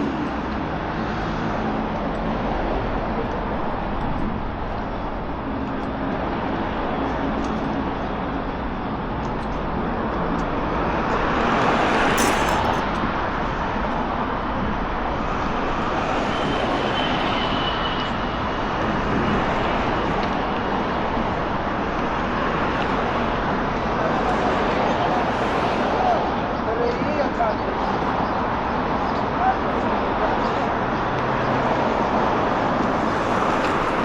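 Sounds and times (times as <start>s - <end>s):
road noise from passing cars: 0.0s - 34.0s.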